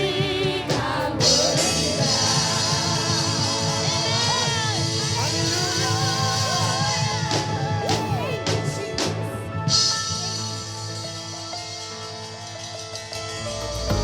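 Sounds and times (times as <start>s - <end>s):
gospel band playing chords: 0.0s - 14.0s
sharp percussion hits: 0.0s - 14.0s.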